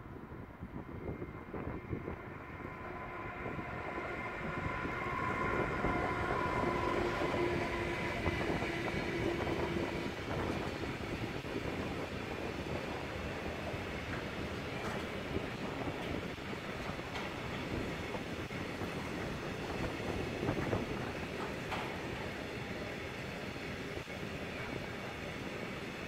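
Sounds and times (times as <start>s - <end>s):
electric locomotive whine: 0.0s - 26.0s
train wheels rolling on rails: 0.8s - 26.0s.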